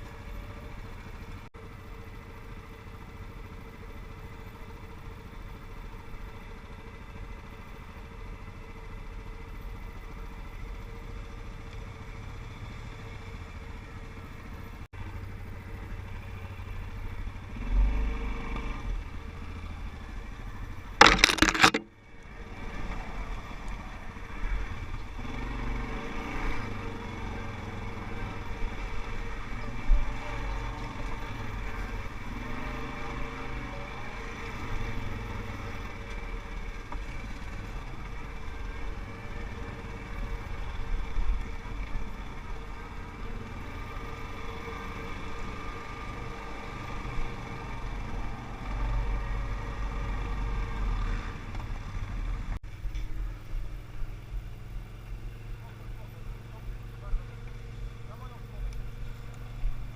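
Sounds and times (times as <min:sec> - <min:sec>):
atv engine rumbling: 0:00.0 - 0:59.9.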